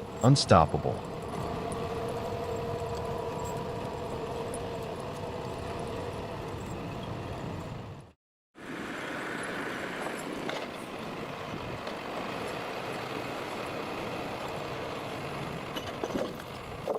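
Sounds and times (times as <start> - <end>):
heavy machine engine humming: 0.0 - 16.9.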